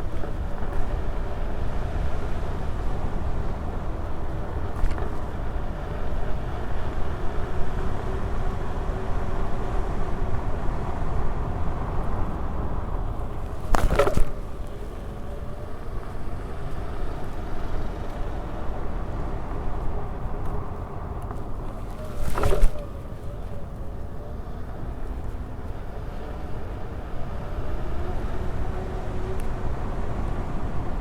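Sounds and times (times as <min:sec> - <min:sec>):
faint motor whine: 0:00.0 - 0:31.0
wind and tyre rumble: 0:00.0 - 0:31.0.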